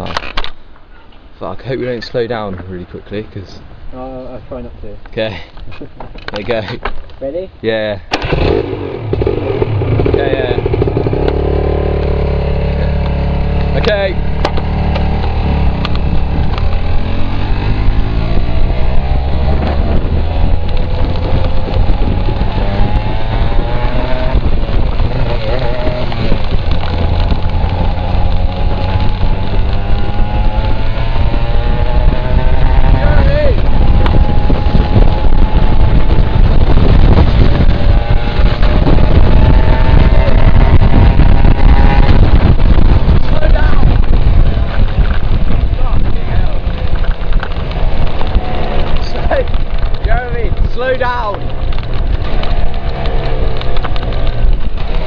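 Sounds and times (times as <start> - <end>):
wind buffeting microphone: 1.2 - 55.0
motorcycle engine running: 8.2 - 55.0.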